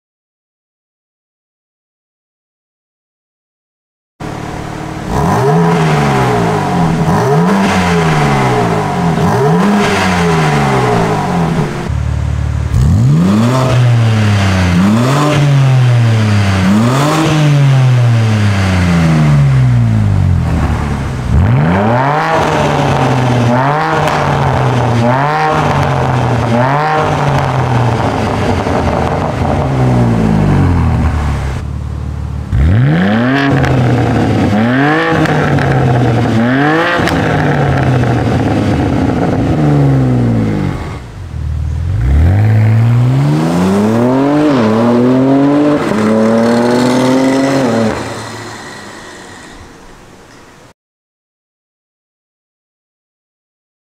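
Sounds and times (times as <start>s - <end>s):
car engine revving: 4.2s - 50.7s.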